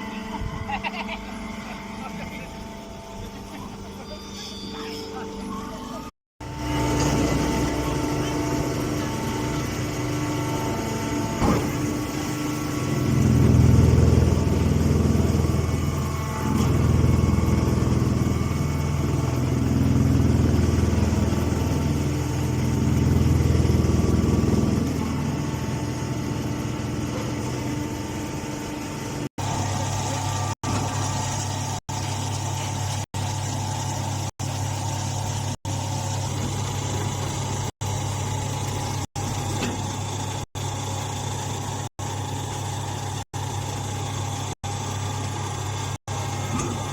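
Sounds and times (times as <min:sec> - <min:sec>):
hay baling machine running: 0:06.4 - 0:46.9.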